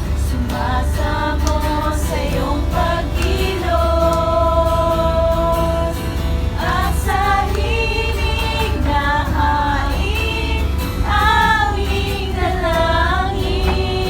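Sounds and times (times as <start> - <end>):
woman singing: 0.0 - 6.0, 6.6 - 14.0.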